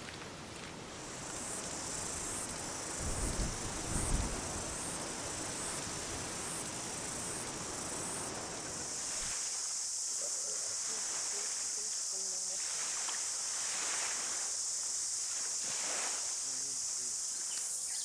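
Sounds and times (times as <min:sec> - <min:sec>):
cicadas buzzing: 0:00.9 - 0:18.0
steady hiss: 0:01.0 - 0:18.0.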